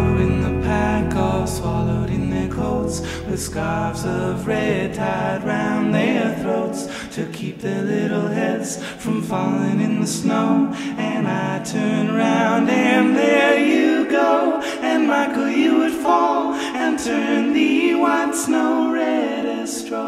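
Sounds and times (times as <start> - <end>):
voices singing in harmony: 0.0 - 20.0.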